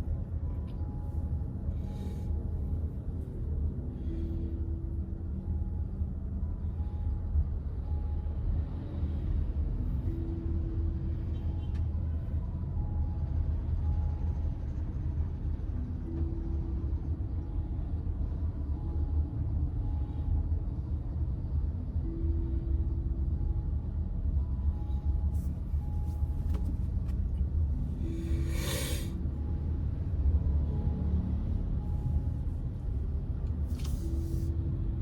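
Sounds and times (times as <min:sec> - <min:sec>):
car interior driving rumble: 0:00.0 - 0:35.0.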